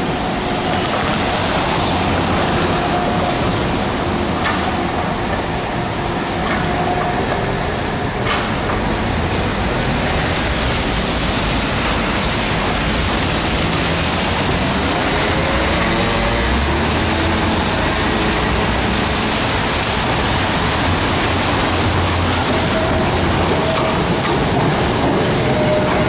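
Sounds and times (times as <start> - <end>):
street traffic on wet road: 0.0 - 26.0
tram running on rails: 0.0 - 26.0.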